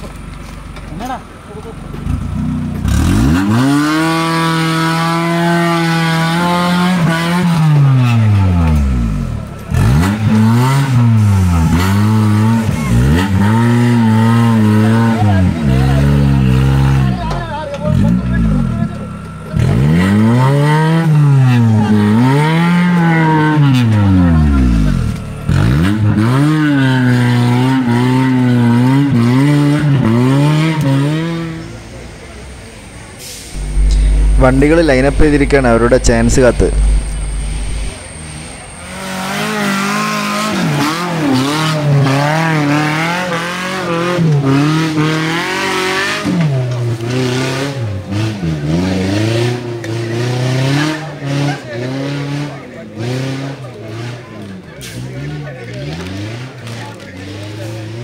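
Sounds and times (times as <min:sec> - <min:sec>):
engine revving hard: 0:02.1 - 0:17.2, 0:19.5 - 0:31.6, 0:33.6 - 0:58.0.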